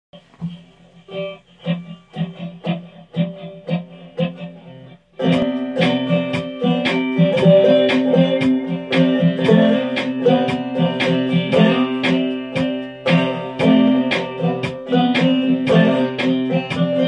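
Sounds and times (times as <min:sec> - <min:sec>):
slide guitar playing: 0:00.2 - 0:17.0.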